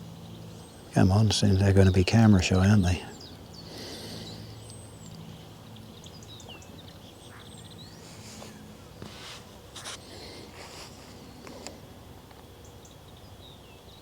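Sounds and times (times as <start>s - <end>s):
faint steady low hum: 0.0s - 14.0s
small birds chirping: 0.0s - 14.0s.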